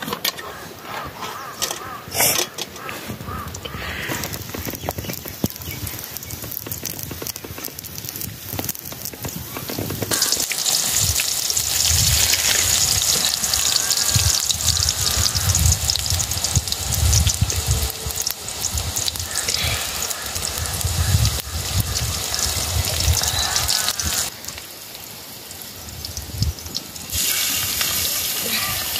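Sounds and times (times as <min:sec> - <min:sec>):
vegetables sizzling in oil: 0:04.4 - 0:28.9.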